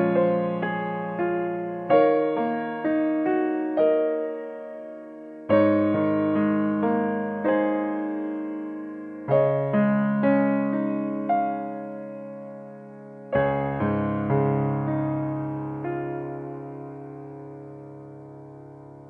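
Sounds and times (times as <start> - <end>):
soft piano chords: 0.0 - 19.0.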